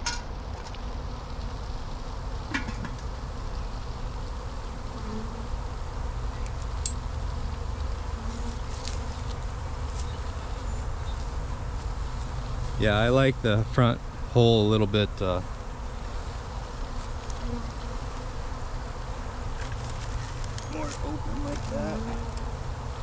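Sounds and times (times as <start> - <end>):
bees buzzing: 1.0 - 23.0.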